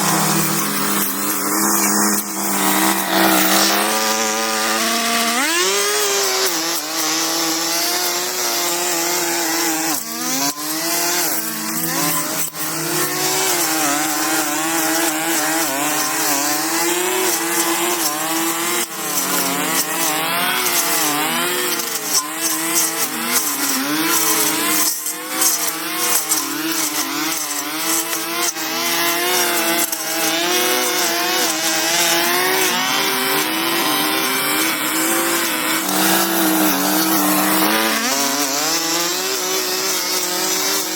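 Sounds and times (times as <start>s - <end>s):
small engine tool running: 0.0s - 40.9s.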